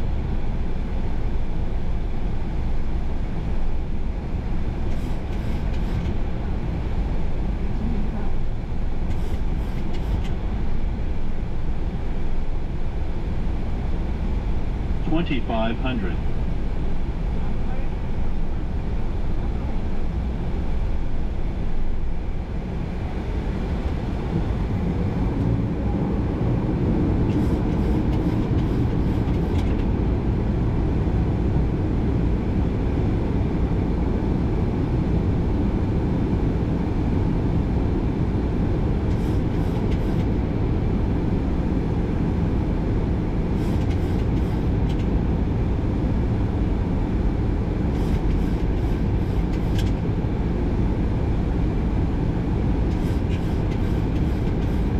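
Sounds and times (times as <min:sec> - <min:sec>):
aircraft engines: 0:00.0 - 0:54.9.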